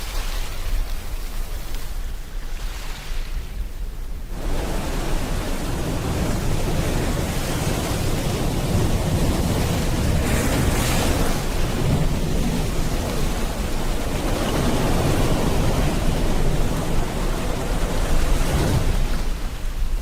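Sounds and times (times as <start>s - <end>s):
ocean waves: 0.0s - 20.0s
rain: 0.0s - 20.0s.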